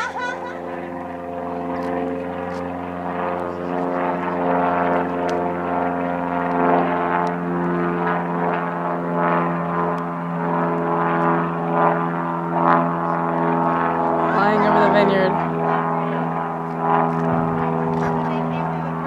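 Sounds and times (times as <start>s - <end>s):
propeller airplane engine droning: 0.0s - 19.0s.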